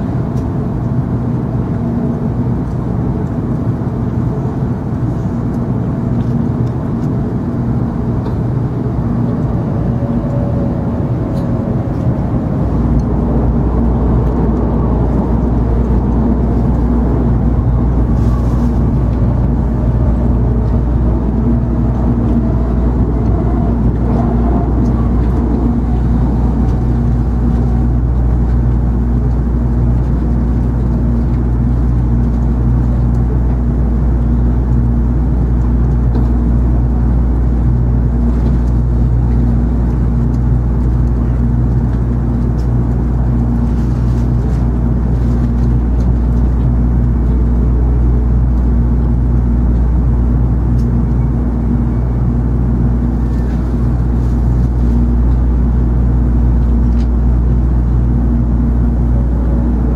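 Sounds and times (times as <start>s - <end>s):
steady hum: 0.0s - 59.9s
train cabin low rumble: 0.0s - 59.9s.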